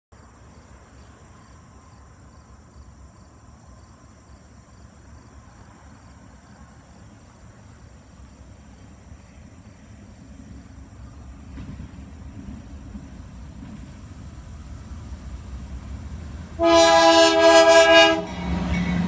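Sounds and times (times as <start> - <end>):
distant freight train rumble: 0.2 - 19.0.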